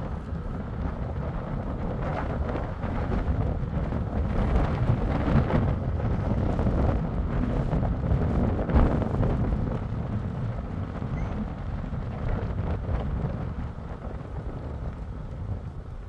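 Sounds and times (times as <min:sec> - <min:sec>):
car road and engine noise: 0:00.0 - 0:16.0
wind buffeting microphone: 0:00.0 - 0:16.0.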